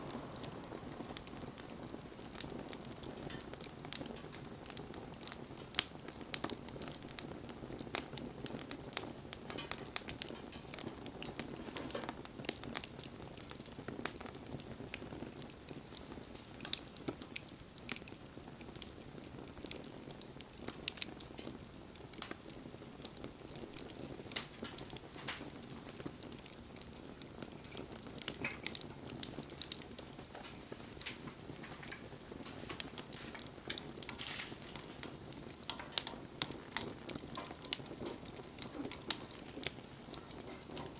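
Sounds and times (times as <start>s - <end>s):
campfire crackling and popping: 0.0s - 40.9s
low rush of flame: 0.0s - 40.9s.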